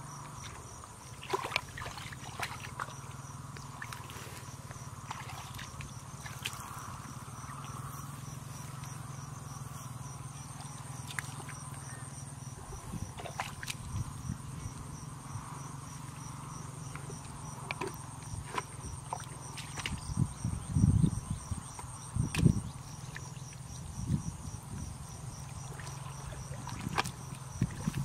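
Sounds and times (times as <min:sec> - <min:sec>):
insects trilling: 0:00.0 - 0:28.0
low steady hum: 0:00.0 - 0:28.0
squelches and splashes in mud: 0:00.2 - 0:20.5, 0:21.6 - 0:24.0, 0:24.6 - 0:28.0.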